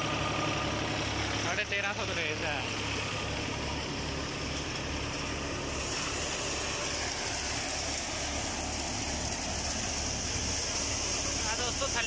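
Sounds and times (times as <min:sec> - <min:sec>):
diesel tractor engine running: 0:00.0 - 0:12.0
thresher whirring: 0:00.0 - 0:12.0.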